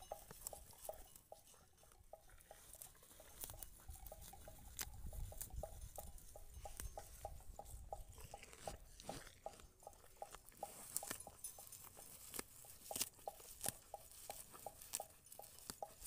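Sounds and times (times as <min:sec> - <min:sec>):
cow tearing grass: 0:00.0 - 0:16.0.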